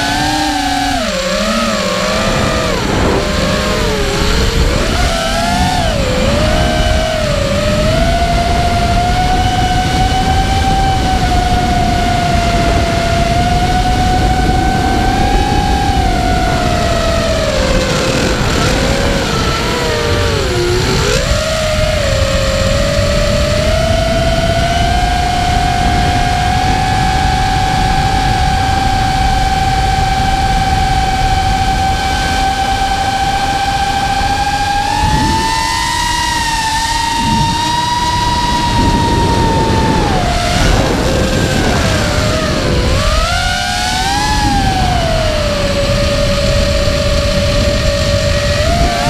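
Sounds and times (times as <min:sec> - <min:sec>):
drone motors whining: 0:00.0 - 0:49.0
wind rumble: 0:00.0 - 0:49.0.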